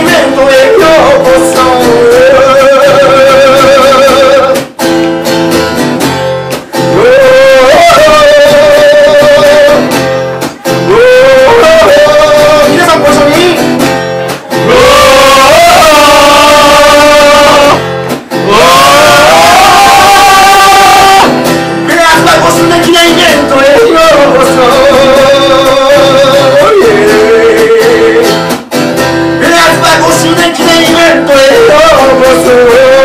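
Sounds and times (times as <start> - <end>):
man singing: 0.0 - 4.8, 6.6 - 28.6, 29.3 - 33.0
acoustic guitar strumming: 0.0 - 33.0.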